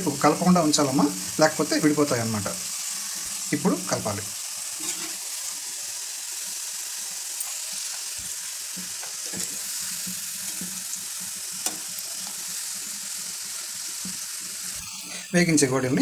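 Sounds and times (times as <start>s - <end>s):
dough sizzling in hot oil: 0.0s - 16.0s.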